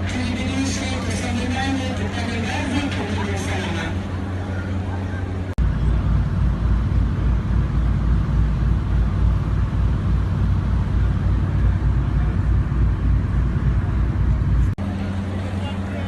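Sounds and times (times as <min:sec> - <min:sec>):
low fluttering rumble: 0:00.0 - 0:16.0.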